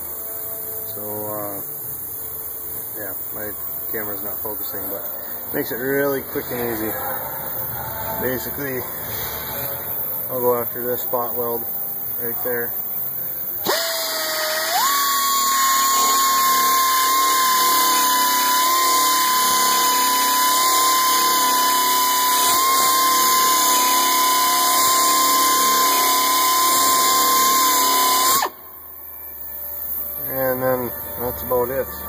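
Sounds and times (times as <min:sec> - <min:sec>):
belt sander grinding metal: 0:00.0 - 0:32.0.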